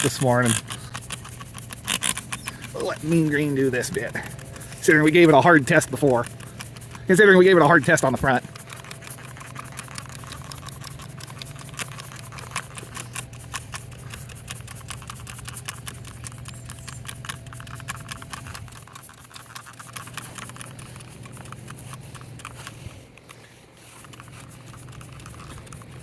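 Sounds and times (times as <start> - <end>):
low steady hum: 0.0 - 26.0
spray bottle hissing sprays: 0.0 - 26.0.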